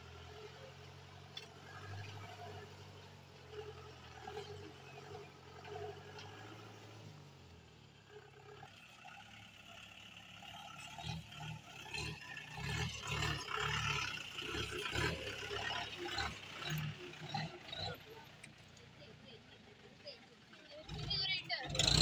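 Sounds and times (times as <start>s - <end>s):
jeep engine labouring: 0.0s - 22.0s.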